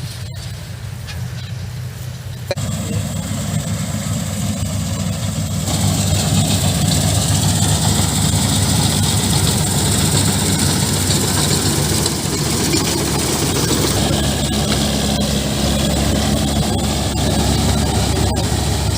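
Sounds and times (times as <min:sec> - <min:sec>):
diesel engine under load: 0:00.0 - 0:18.9
threshing machinery rattling: 0:02.4 - 0:18.9.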